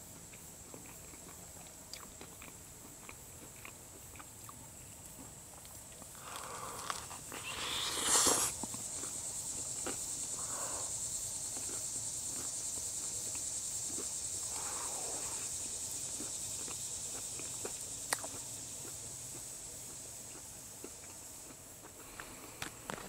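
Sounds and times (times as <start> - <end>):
buzzing insect chorus: 0.0 - 23.0.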